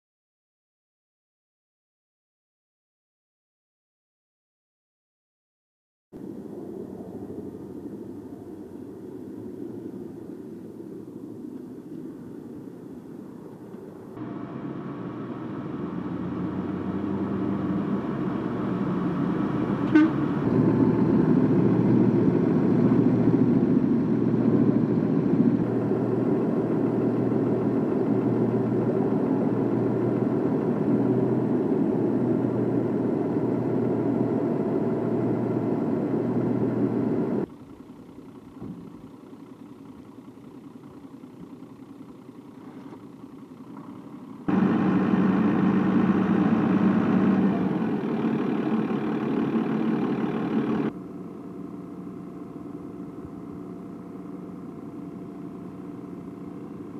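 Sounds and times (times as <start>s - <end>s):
engine drone: 6.2s - 56.9s.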